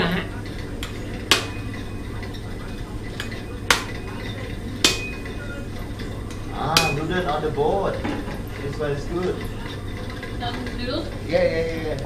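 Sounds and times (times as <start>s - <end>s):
dishes clinking: 0.0s - 12.0s.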